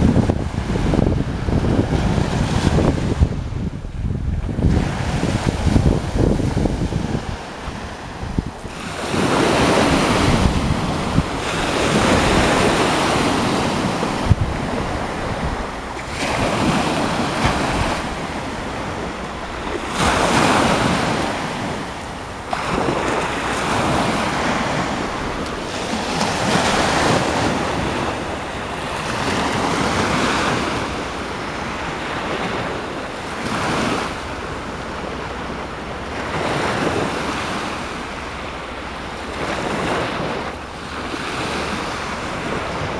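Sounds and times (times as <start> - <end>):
waves breaking and washing ashore: 0.0 - 42.9
wind buffeting microphone: 0.0 - 42.9.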